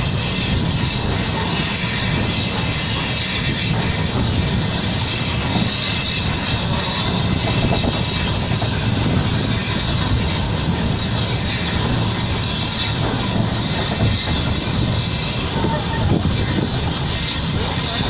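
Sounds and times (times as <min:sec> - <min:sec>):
steam locomotive running: 0:00.0 - 0:18.0
wheels on rails: 0:00.0 - 0:18.0.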